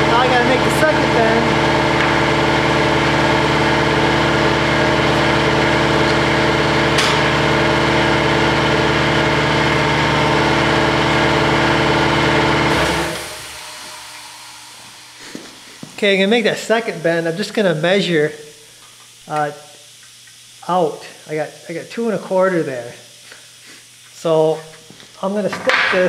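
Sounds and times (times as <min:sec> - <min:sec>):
motor humming: 0:00.0 - 0:26.0.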